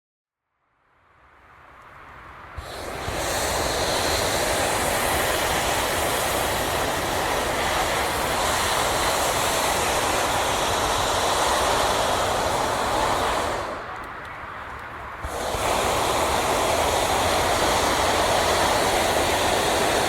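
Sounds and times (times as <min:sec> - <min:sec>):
propane burner blast: 0:02.0 - 0:20.0.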